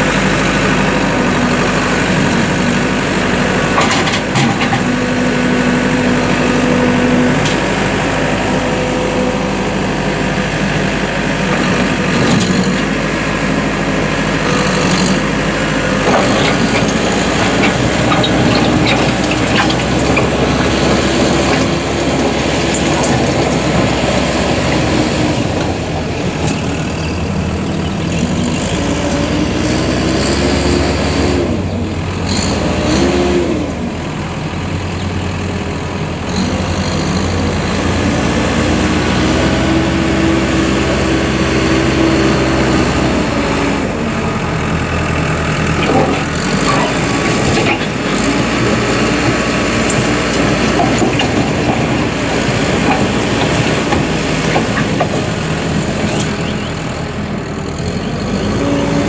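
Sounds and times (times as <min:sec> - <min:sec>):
backhoe diesel engine revving: 0:00.0 - 0:59.0.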